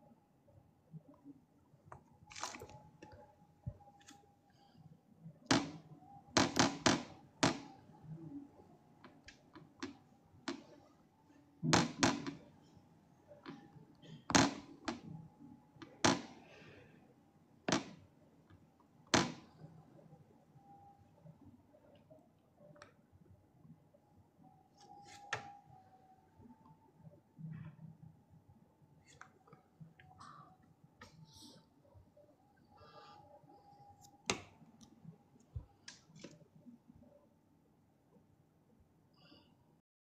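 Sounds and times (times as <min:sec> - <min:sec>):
faint steady tone: 0:00.0 - 0:06.4, 0:07.1 - 0:39.8.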